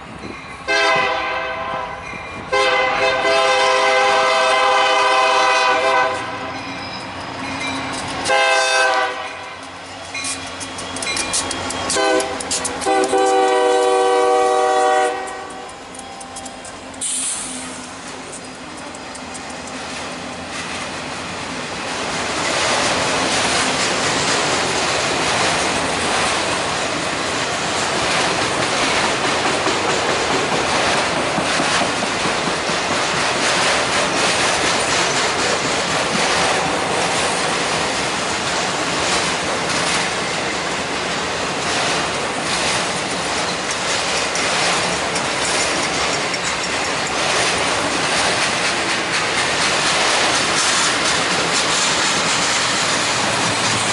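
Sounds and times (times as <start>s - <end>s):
freight train rumbling past: 0.0s - 53.9s
wheels clicking over rail joints: 5.9s - 53.9s.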